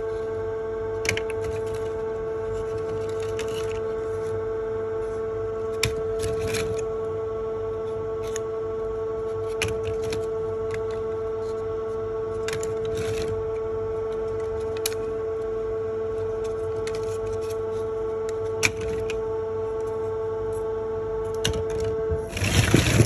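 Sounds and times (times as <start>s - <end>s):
steady pitched hum: 0.0s - 23.0s.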